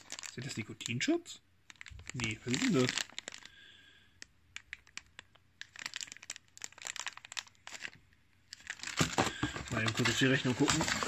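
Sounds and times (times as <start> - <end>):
packaging crinkling and rustling: 0.0 - 1.0, 1.7 - 3.6, 4.2 - 11.0.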